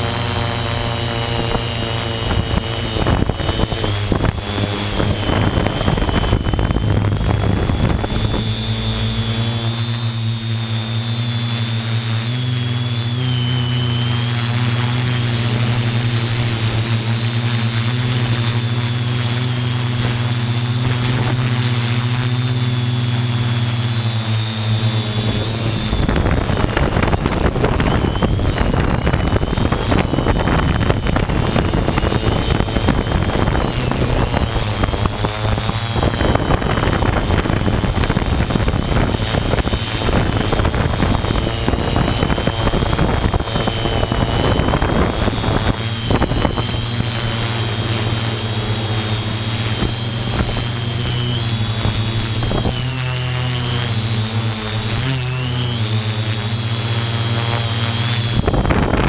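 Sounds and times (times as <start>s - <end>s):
wind gusts on microphone: 0.0s - 11.6s, 12.2s - 59.0s
drone motors humming and whining: 0.0s - 59.0s.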